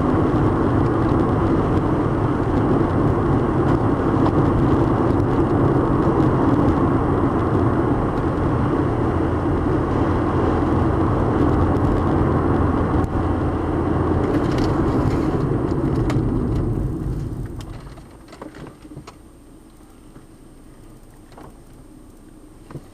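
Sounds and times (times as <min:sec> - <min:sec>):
low engine hum: 0:00.0 - 0:22.9
road noise: 0:00.0 - 0:22.9.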